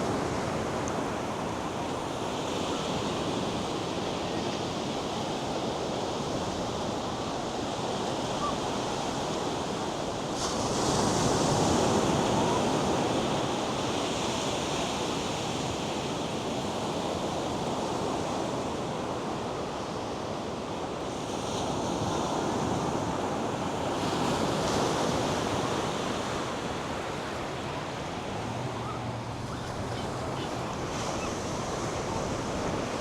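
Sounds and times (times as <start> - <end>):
waves breaking on beach: 0.0 - 33.0
wind: 0.0 - 33.0.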